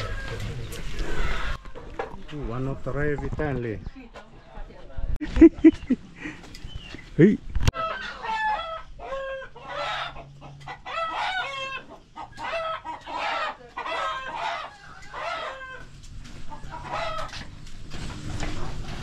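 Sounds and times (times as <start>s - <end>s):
chickens clucking: 0.0s - 17.7s.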